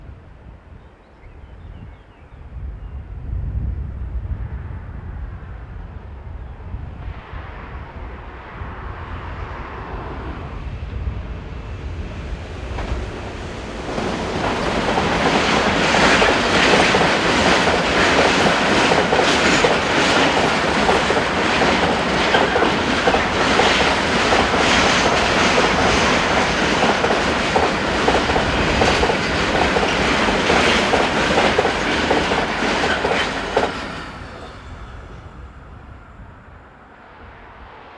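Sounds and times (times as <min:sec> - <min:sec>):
freight train passing: 0:03.0 - 0:37.9.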